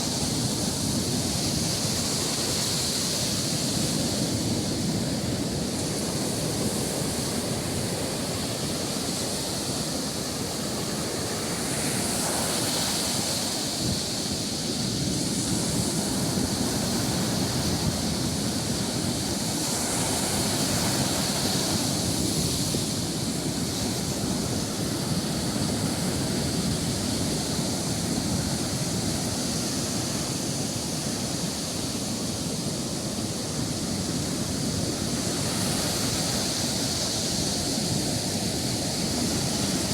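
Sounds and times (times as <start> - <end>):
sea surf breaking on shore: 0.0 - 39.9.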